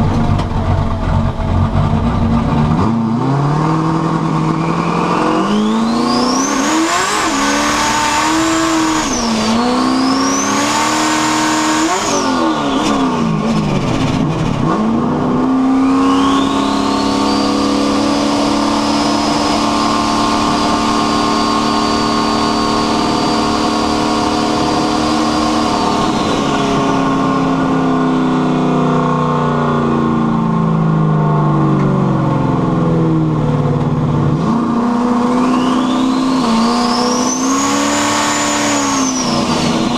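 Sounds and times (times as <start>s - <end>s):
car engine accelerating: 0.0s - 39.9s
high turbo whine: 0.0s - 39.9s.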